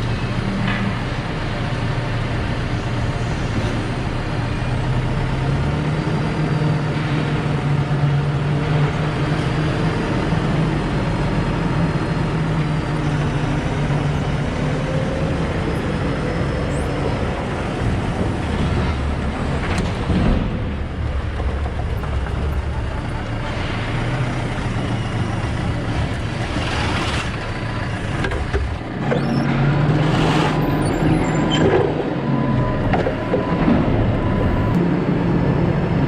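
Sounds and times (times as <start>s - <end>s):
forklift engine running: 0.0s - 36.0s.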